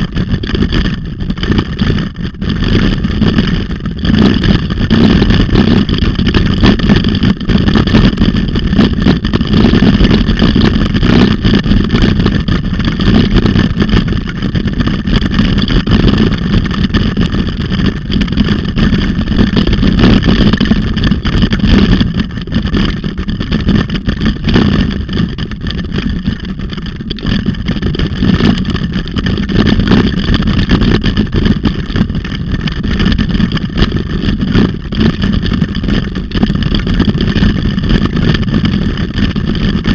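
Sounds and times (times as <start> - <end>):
wheels rumbling on paved road: 0.0 - 39.9
wind buffeting microphone: 0.0 - 39.9.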